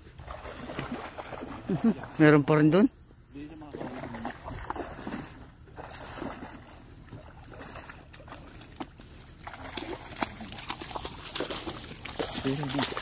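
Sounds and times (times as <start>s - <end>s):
fish splashing in water: 0.0s - 2.2s, 3.7s - 13.0s.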